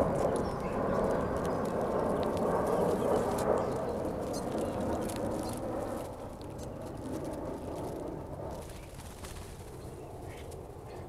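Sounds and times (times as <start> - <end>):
birds wings fluttering: 0.0 - 10.9.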